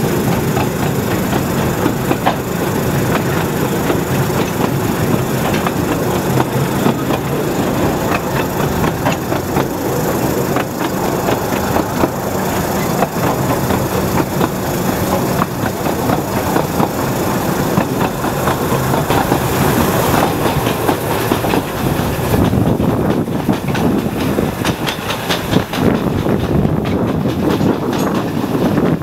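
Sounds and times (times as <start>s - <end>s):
carriages rattling: 0.0s - 29.0s
train rumble: 0.0s - 29.0s
wheels clattering on rail joints: 0.0s - 29.0s.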